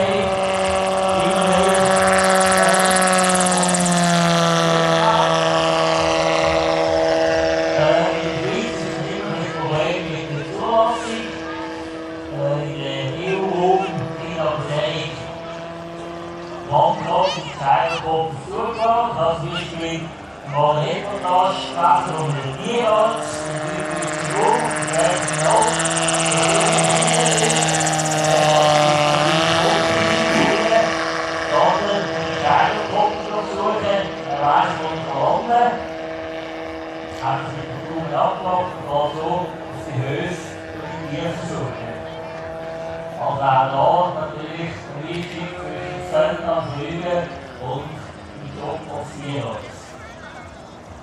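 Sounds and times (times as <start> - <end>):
model aircraft motor humming: 0.0 - 51.0.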